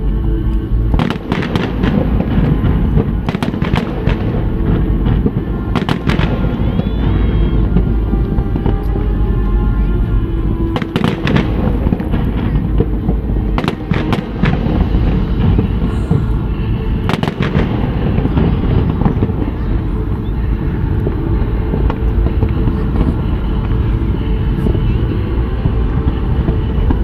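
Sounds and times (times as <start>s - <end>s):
low booming of fireworks: 0.0s - 27.0s.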